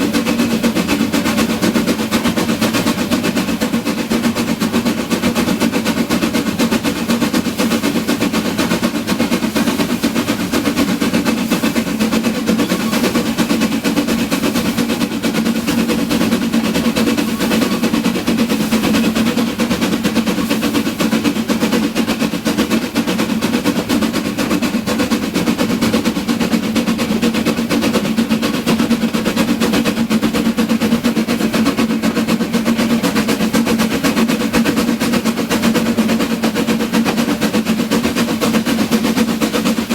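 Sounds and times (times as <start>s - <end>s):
train low rumble: 0.0s - 39.9s
train rattling clatter: 0.0s - 39.9s.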